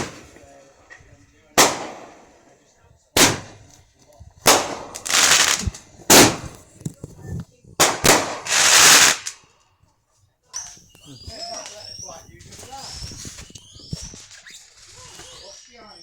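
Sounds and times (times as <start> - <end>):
fireworks bangs: 0.0 - 9.4, 10.6 - 16.0
fireworks hissing and crackling: 0.0 - 9.6, 10.6 - 16.0.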